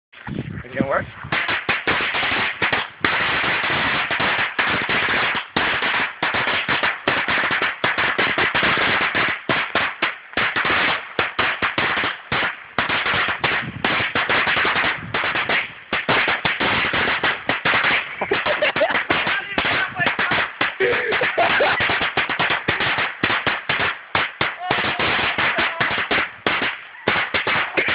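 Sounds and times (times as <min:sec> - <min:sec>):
firecracker string bangs: 0:01.3 - 0:27.9.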